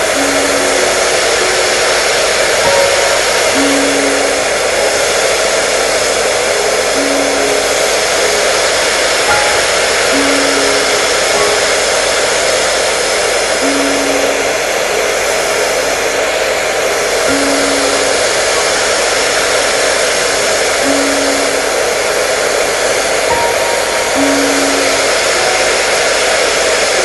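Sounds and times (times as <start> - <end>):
hair dryer running: 0.0 - 27.0.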